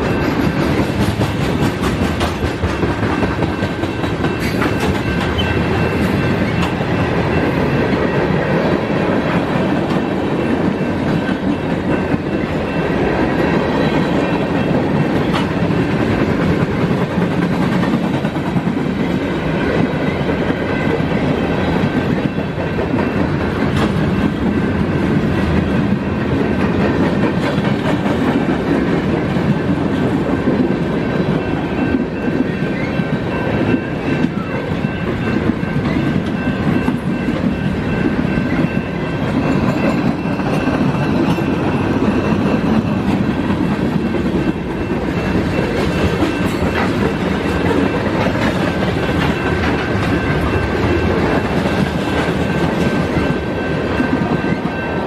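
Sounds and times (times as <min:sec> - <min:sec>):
freight train wheels rumbling: 0:00.0 - 0:55.0
high steady ringing: 0:02.6 - 0:26.7, 0:30.7 - 0:55.0.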